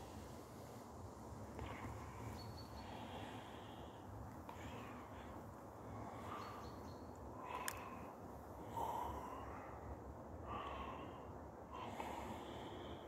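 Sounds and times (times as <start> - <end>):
person breathing: 1.5 - 13.0.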